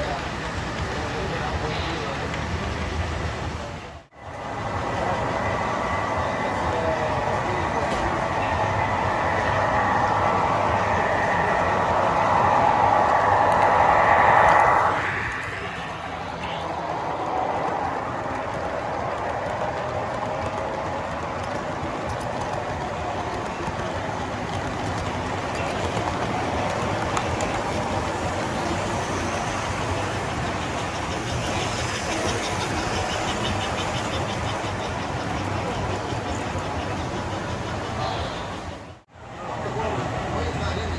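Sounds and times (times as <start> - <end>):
model train rolling hum: 0.0 - 40.9.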